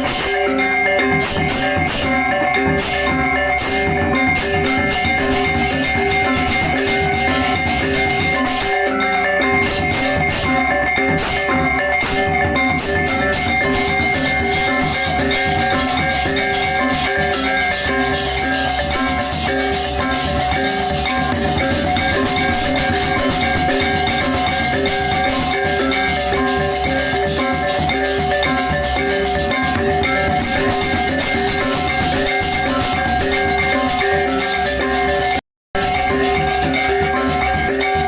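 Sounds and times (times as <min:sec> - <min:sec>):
clashing cymbals: 0:00.0 - 0:38.0
drums: 0:00.0 - 0:38.0
gongs ringing: 0:00.0 - 0:38.0.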